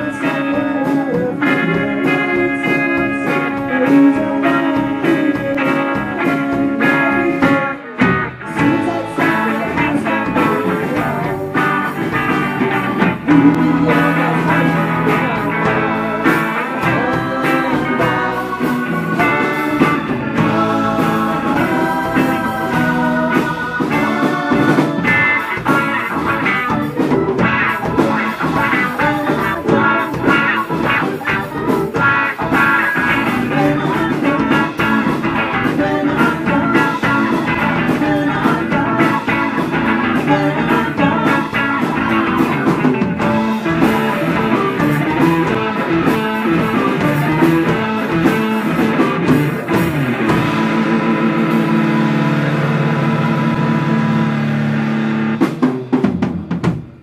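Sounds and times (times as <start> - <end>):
bass: 0.0 - 57.0
combo organ: 0.0 - 57.0
drum kit: 0.0 - 57.0
electric guitar: 0.0 - 57.0.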